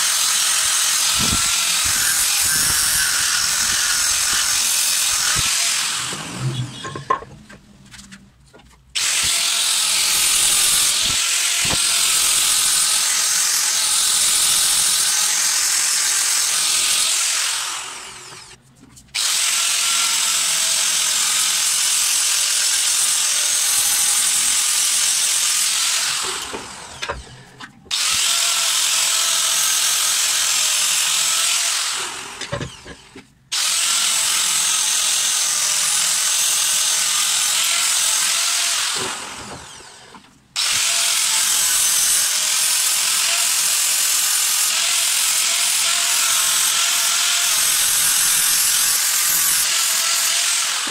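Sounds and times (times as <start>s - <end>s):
angle grinder grinding steel: 0.0s - 7.4s, 9.0s - 18.6s, 19.2s - 50.9s.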